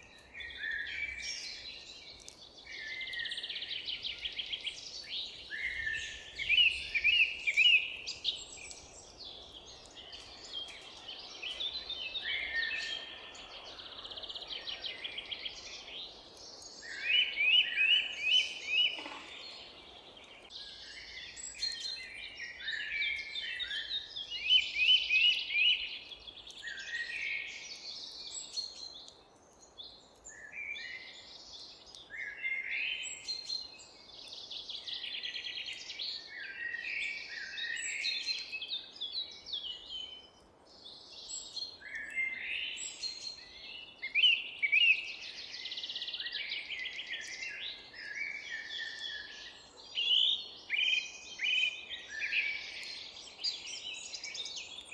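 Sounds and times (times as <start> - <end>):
songbirds singing and calling: 0.0 - 54.9.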